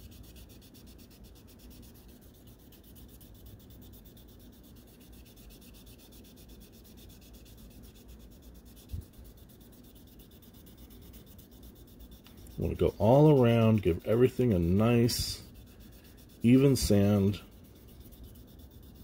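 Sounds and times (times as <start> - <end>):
sandpaper rubbing on plastic: 0.0 - 19.0.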